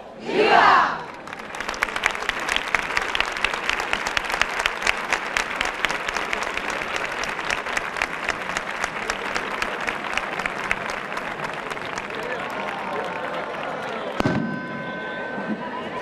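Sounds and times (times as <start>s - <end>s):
crowd applauding: 1.0s - 14.4s.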